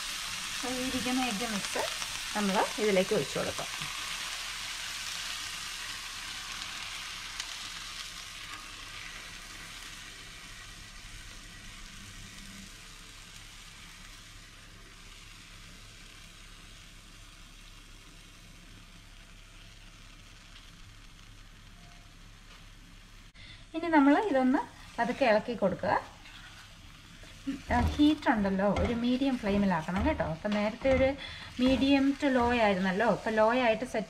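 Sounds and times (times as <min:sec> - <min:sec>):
egg sizzling in a frying pan: 0:00.0 - 0:34.0.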